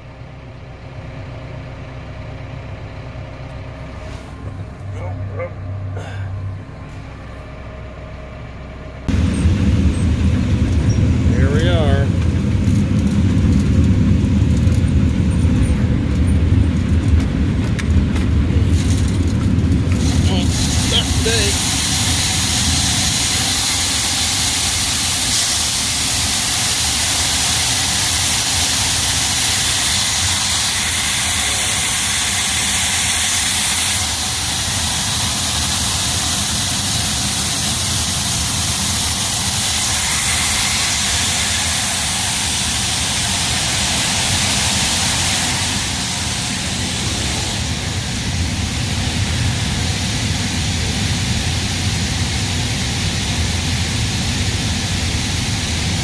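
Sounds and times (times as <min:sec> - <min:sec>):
farm machinery engine running: 0:00.0 - 0:56.0
loud constant hiss: 0:09.1 - 0:56.0.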